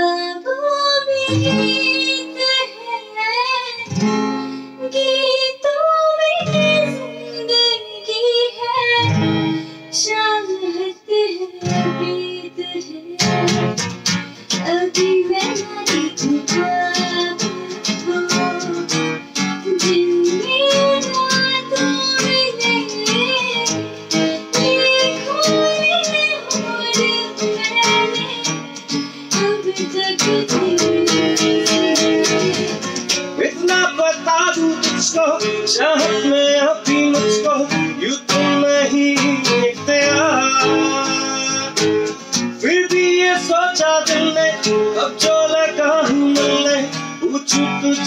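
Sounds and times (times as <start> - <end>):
acoustic guitar strumming: 1.2 - 48.0
person singing: 4.8 - 13.8, 14.5 - 48.0.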